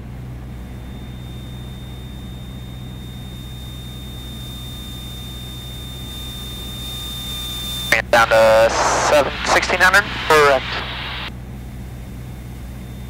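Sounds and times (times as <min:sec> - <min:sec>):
faint high whine: 0:00.0 - 0:11.4, 0:12.1 - 0:13.0
aircraft engine and propeller droning: 0:00.0 - 0:13.0.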